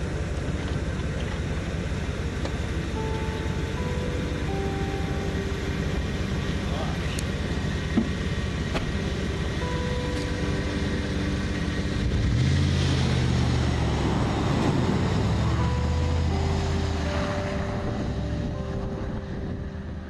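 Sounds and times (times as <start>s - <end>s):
pickup truck engine running: 0.0s - 20.0s.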